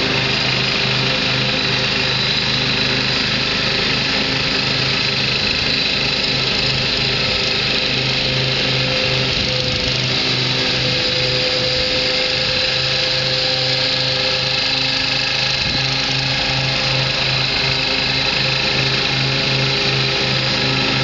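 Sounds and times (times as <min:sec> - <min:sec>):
garden tractor engine running: 0:00.0 - 0:21.0.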